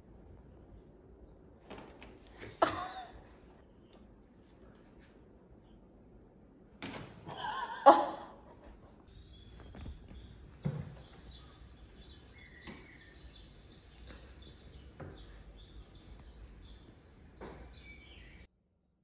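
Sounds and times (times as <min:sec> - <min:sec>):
faint birds chirping on television: 0:00.0 - 0:18.5.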